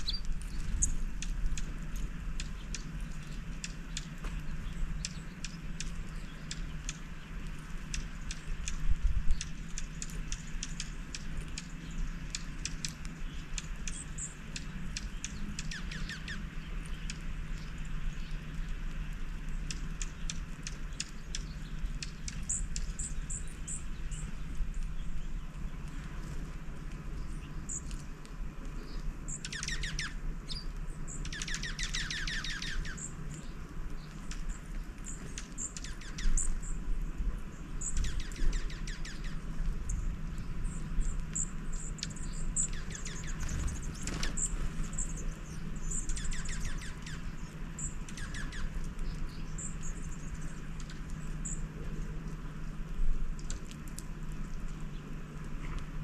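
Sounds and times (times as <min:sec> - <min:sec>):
low steady hum: 0:00.0 - 0:56.0
small songbirds chirping: 0:00.0 - 0:56.0.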